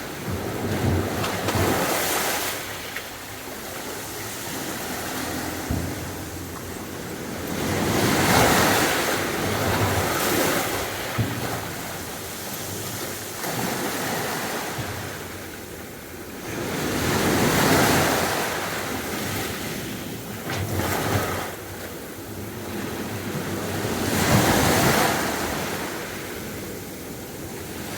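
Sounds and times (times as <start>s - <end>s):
sea waves breaking: 0.0s - 27.9s.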